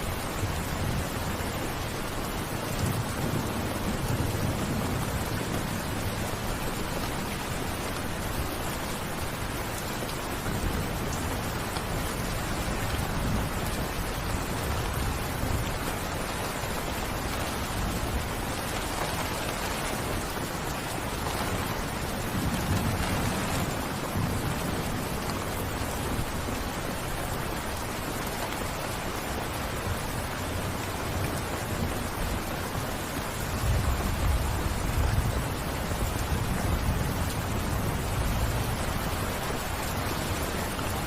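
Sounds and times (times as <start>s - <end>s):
steady rain hiss: 0.0s - 41.0s.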